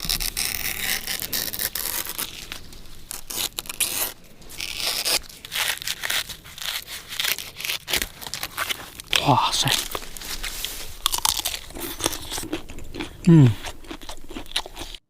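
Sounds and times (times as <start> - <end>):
palm sheaths being torn: 0.0 - 12.5.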